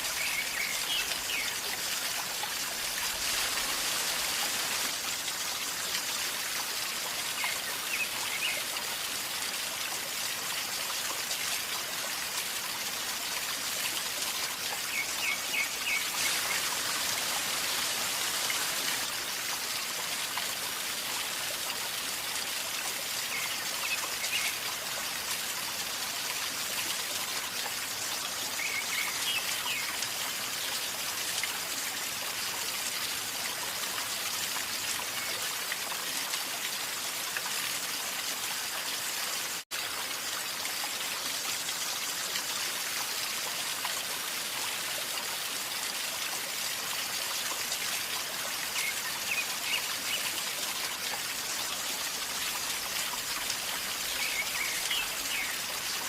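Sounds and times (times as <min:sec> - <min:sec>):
river water gurgling: 0:00.0 - 0:56.0.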